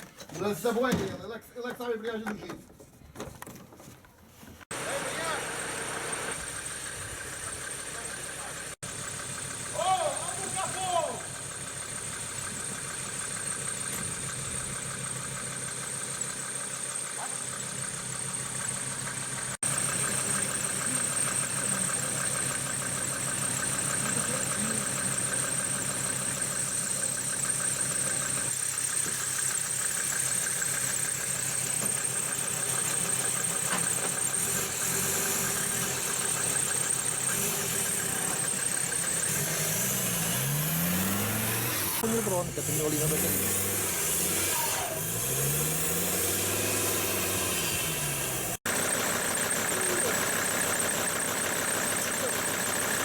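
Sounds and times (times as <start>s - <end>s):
diesel engine idling: 4.7s - 53.0s.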